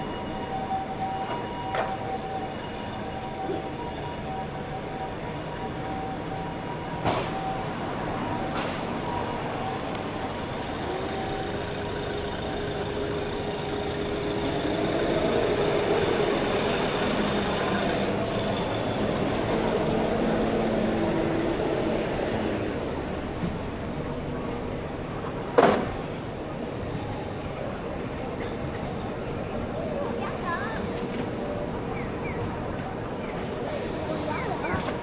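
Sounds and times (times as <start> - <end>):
city street ambience: 0.0 - 35.0.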